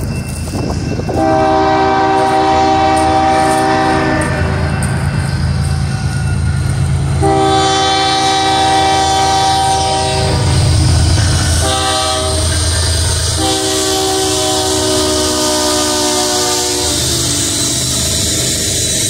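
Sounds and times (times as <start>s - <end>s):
diesel locomotive engine rumble: 0.0s - 19.0s
multi-chime air horn blasts: 0.6s - 10.6s, 11.4s - 12.6s, 13.3s - 18.2s.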